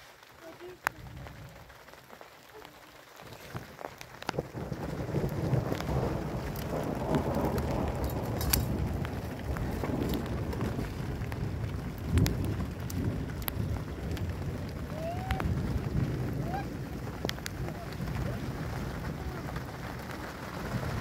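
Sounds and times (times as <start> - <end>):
rain: 0.0 - 21.0
rain drops tapping: 0.0 - 21.0
wind on microphone: 3.2 - 21.0.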